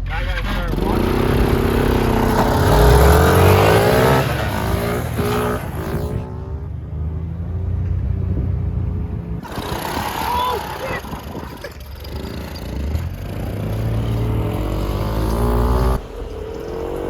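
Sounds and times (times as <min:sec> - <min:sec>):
small gas engine revving: 0:00.0 - 0:17.0.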